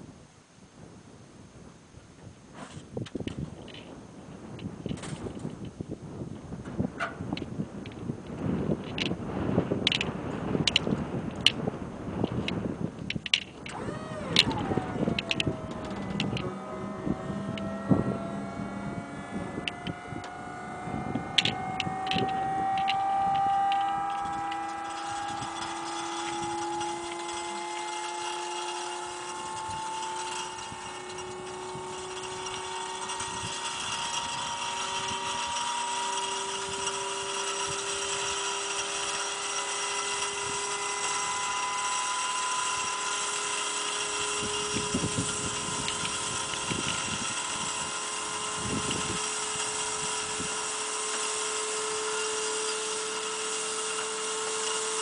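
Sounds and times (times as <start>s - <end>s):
electric motor whine: 0.0s - 55.0s.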